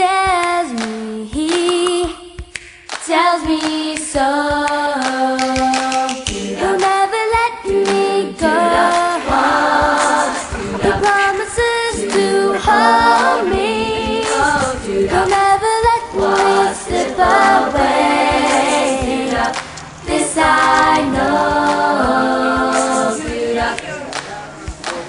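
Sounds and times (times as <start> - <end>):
a cappella group singing: 0.0 - 2.2, 2.9 - 24.5.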